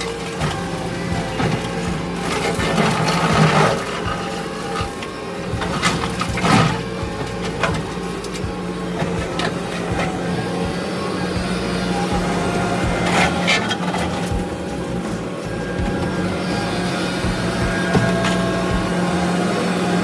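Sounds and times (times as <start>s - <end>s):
brush and branches cracking: 0.0s - 20.0s
diesel engine running: 0.0s - 20.0s.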